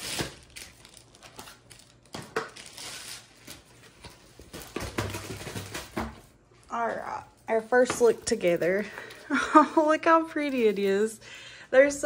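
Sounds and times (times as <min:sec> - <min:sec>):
packaging crinkling and rustling: 0:00.0 - 0:06.3, 0:07.1 - 0:11.1.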